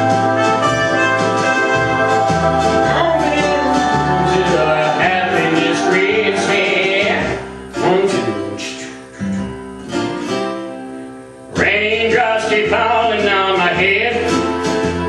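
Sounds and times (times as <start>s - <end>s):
instrumental pop music: 0.0s - 15.0s
plucked guitar: 0.0s - 15.0s.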